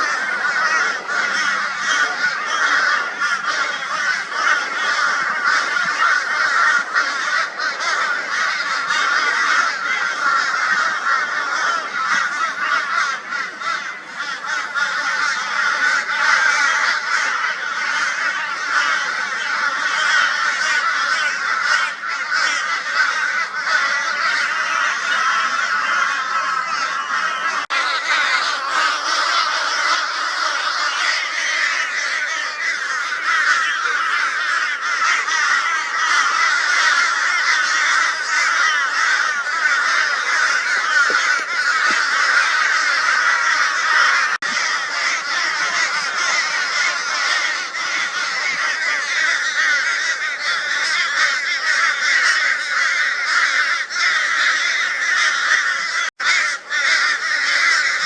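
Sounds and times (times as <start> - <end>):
crows calling harshly: 0.0 - 58.0.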